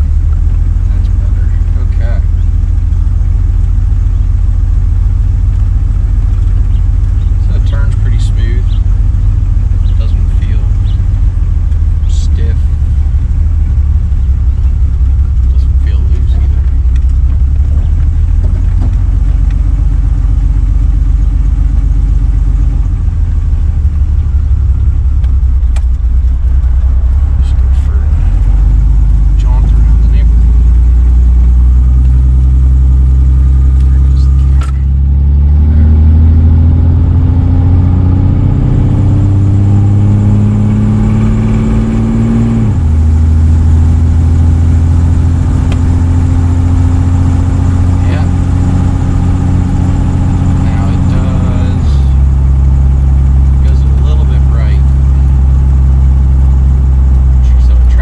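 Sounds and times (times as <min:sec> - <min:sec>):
car engine low rumble: 0:00.0 - 0:58.0.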